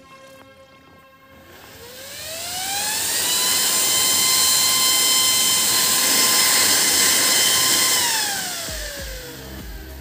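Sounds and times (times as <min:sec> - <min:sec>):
cooling fan whining: 0:00.8 - 0:10.0.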